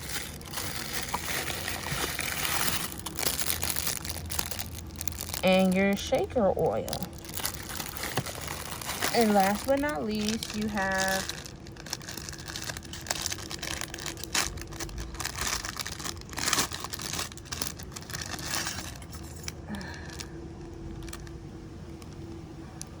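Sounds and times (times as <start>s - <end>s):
plastic packaging crinkling: 0.0s - 23.0s.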